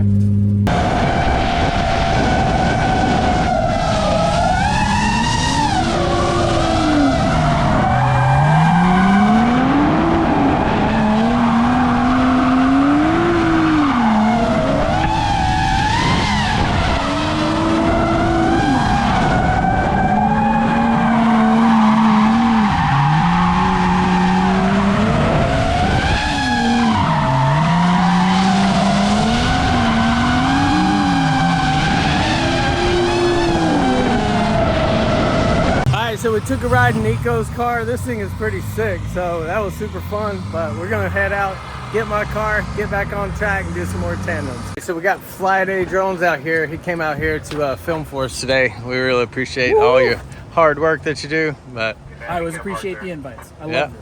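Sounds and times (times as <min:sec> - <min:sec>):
car engine revving: 0:00.0 - 0:44.8
tires squealing: 0:00.0 - 0:54.0.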